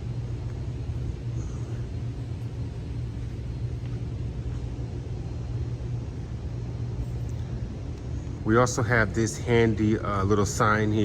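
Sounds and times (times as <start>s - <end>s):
low droning rumble: 0.0s - 11.0s.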